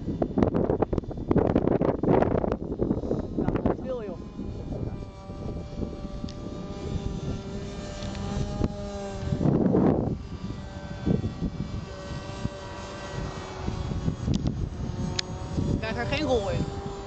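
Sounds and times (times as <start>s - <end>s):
model airplane motor whining: 0.0s - 17.0s
wind buffeting microphone: 0.0s - 17.0s.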